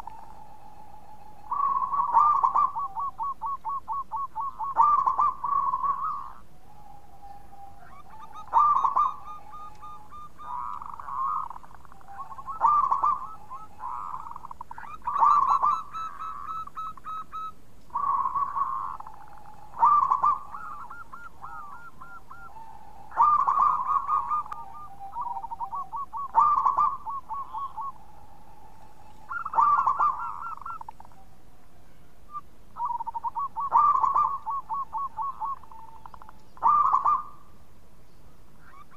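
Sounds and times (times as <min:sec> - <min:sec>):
dove cooing: 0:00.0 - 0:31.4, 0:32.3 - 0:37.6.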